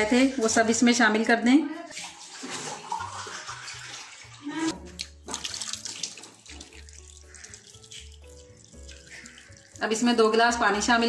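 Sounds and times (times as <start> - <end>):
water pouring into a pot: 1.9 - 10.8.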